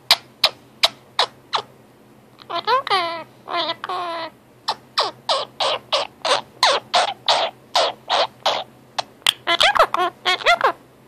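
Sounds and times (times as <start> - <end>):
parakeet calls: 0.1 - 1.7, 2.4 - 10.8
parakeet squawks: 0.1 - 1.7, 2.4 - 10.8.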